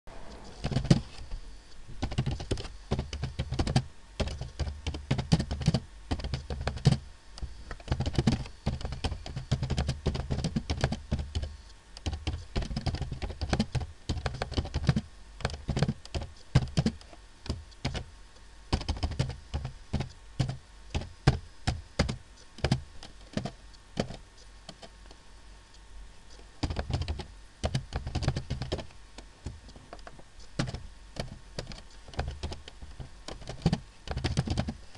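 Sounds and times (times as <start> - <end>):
typing on computer keyboard: 0.6 - 1.1, 2.0 - 7.0, 7.7 - 18.1, 18.7 - 24.9, 26.6 - 28.9, 30.0 - 34.8.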